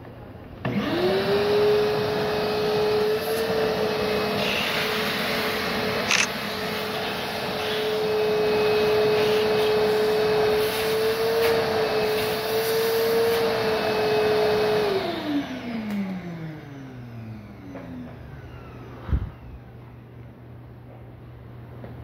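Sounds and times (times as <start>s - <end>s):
electric motor and fan humming: 0.6s - 22.0s.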